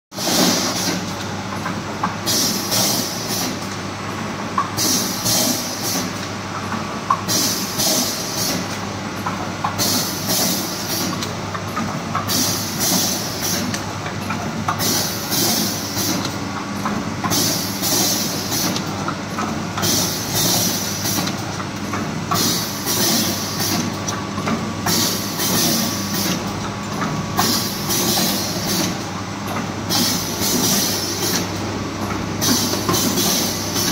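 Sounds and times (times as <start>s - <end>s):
packing machine mechanical hum: 0.2s - 33.9s.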